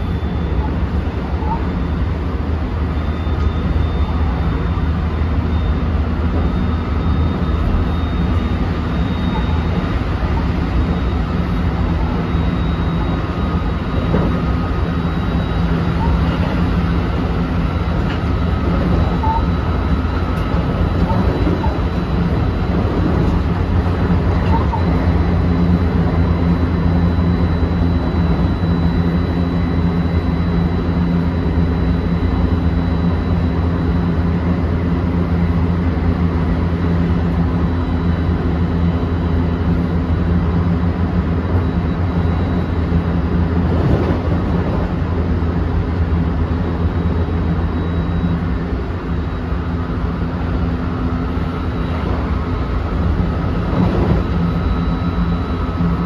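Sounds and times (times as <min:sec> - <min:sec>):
train wheel-and-rail rumble: 0:00.0 - 0:56.0.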